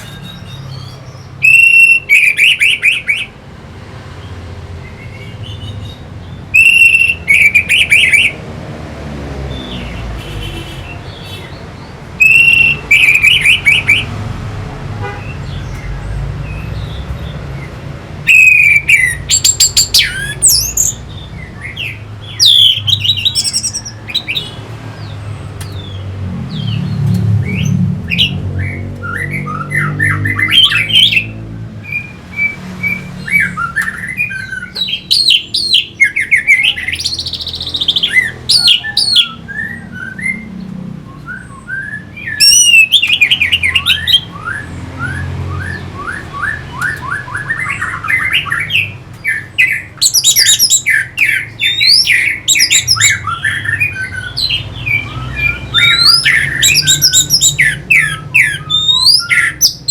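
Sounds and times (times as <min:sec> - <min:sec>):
thrush singing: 0:04.8 - 0:59.9.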